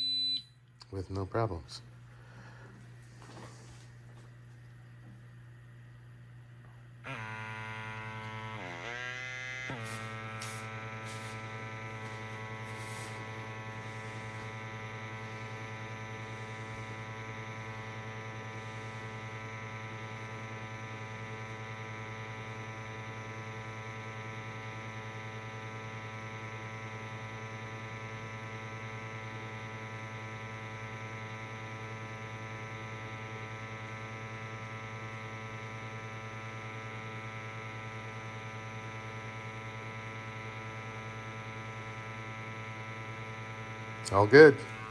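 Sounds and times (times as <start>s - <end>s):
buzzy electrical hum: 0.0s - 44.9s.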